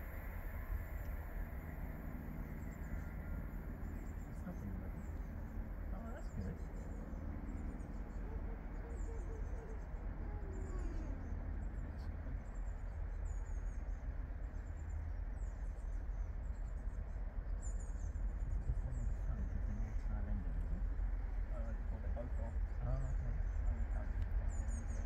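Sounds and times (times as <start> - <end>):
diesel locomotives rumbling: 0.0 - 25.0
small birds chirping: 1.0 - 25.0.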